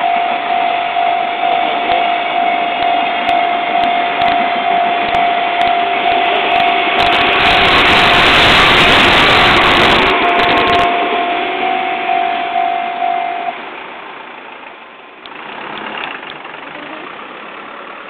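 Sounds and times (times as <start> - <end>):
steady whine: 0.0 - 15.3
train passing over level crossing: 0.0 - 18.0.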